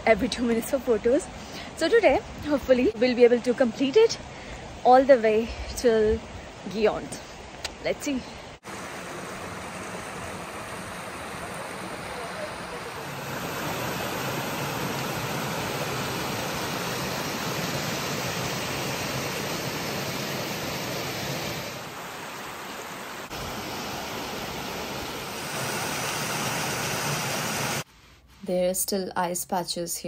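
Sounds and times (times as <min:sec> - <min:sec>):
stream rushing over rocks: 0:02.2 - 0:27.9.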